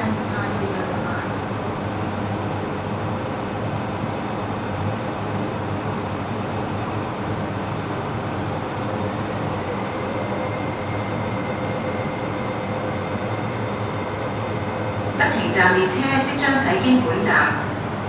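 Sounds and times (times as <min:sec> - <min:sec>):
faint high motor whine: 0:00.0 - 0:18.0
train wheels rumbling on rail: 0:00.0 - 0:18.0.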